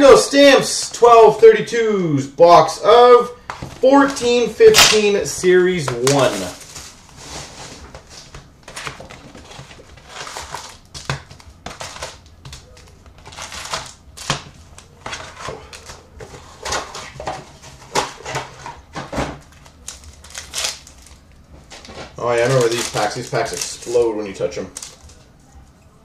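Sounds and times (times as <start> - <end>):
packaging rustling: 3.6 - 25.6.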